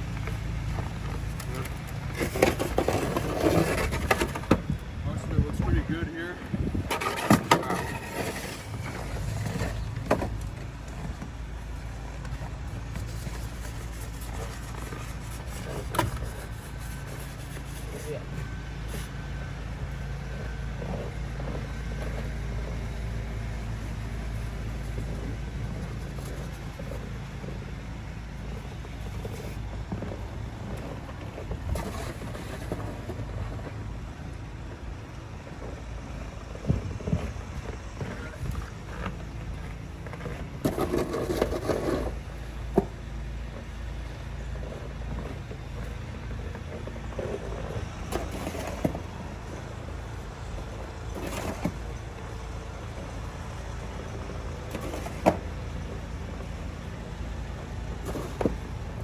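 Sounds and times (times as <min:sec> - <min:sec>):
steady low rumble: 0:00.0 - 0:59.0
snow shovel scraping and knocking: 0:00.2 - 0:04.7, 0:06.8 - 0:33.8, 0:36.8 - 0:42.9, 0:43.5 - 0:57.2, 0:57.9 - 0:59.0.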